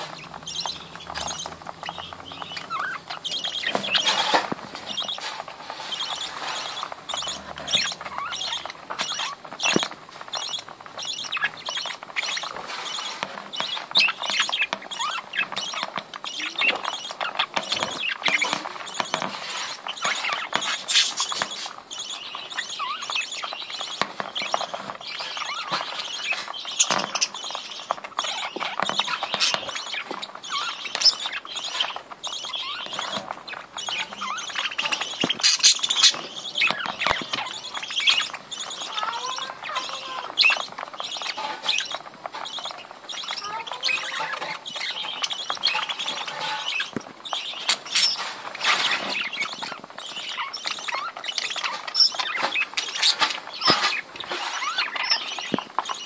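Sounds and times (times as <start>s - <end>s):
beaks clicking on seed dish: 0.0s - 56.0s
budgie chirps: 0.0s - 56.0s.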